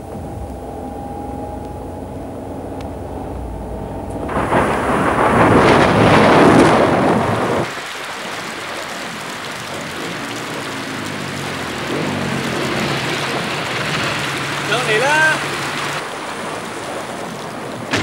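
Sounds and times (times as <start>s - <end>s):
heavy rain falling: 0.0s - 18.0s
thunder rumble: 0.0s - 18.0s.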